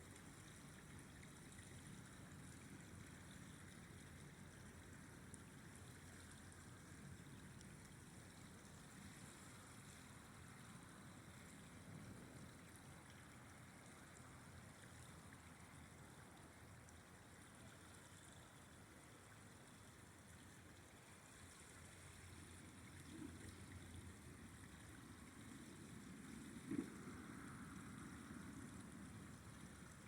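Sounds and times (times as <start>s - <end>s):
river flowing: 0.0s - 30.0s.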